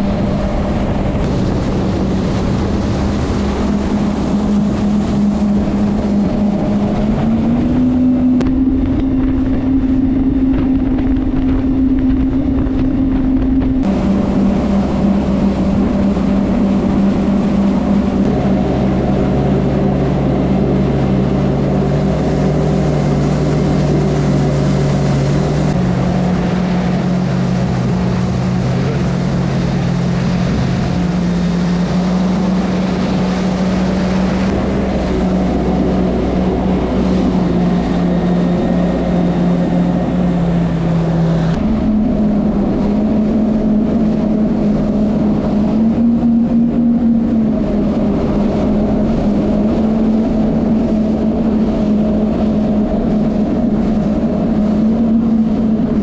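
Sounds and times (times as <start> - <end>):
jet ski engine running: 0.0 - 56.0
rush of spray and wind: 0.0 - 56.0.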